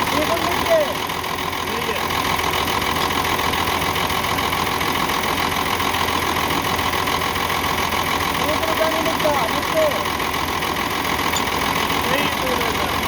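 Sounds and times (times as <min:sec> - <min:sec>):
diesel engine idling with misfire: 0:00.0 - 0:13.0.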